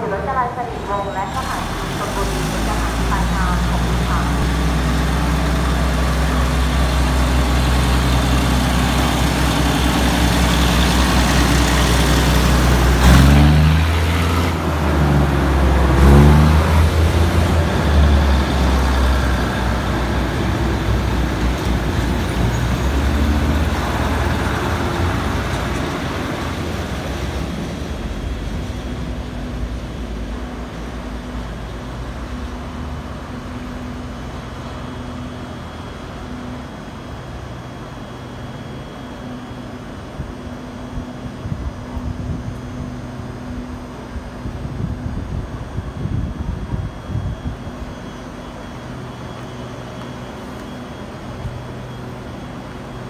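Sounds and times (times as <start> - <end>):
diesel train engine: 0.0 - 53.0.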